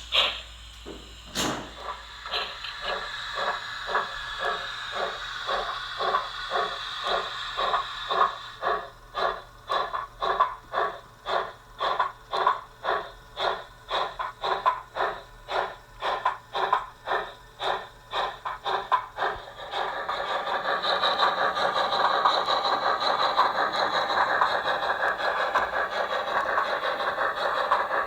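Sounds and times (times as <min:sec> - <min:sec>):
model locomotive chuffing beats: 0:00.0 - 0:28.0.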